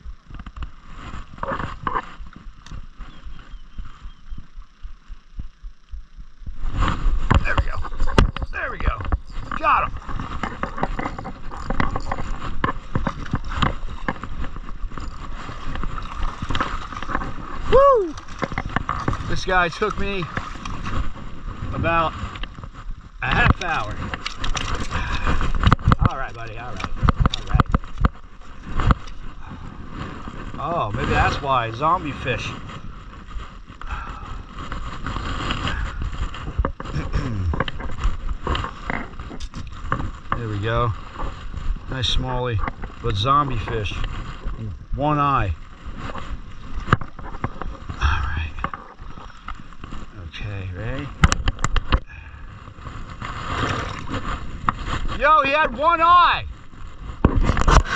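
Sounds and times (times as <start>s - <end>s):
wind rumbling on microphone: 0.0s - 57.9s.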